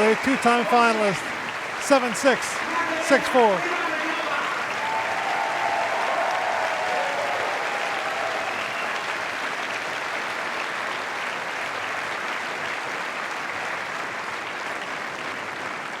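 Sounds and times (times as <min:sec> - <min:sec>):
stadium crowd applauding: 0:00.0 - 0:16.0.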